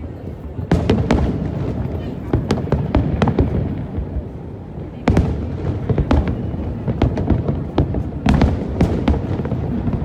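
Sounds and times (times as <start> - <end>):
distant fireworks rumble: 0.0 - 10.0
fireworks sharp bangs: 0.7 - 10.0.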